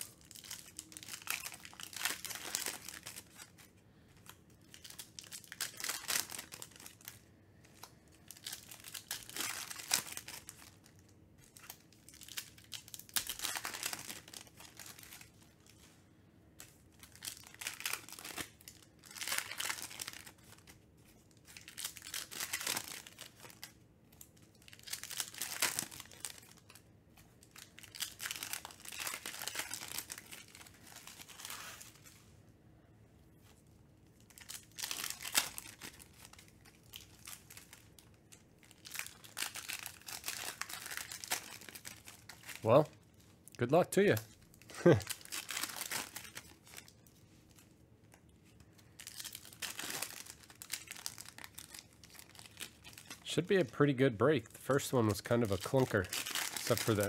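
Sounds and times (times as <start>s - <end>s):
foil wrappers tearing and crinkling: 0.0s - 3.7s, 4.3s - 7.2s, 7.8s - 15.8s, 16.6s - 26.8s, 27.4s - 32.1s, 34.2s - 42.9s, 44.0s - 47.6s, 48.9s - 53.8s, 54.7s - 57.0s.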